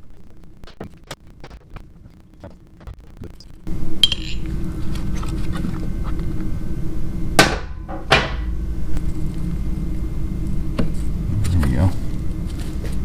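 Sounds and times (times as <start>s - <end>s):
low workshop hum: 0.0s - 13.0s.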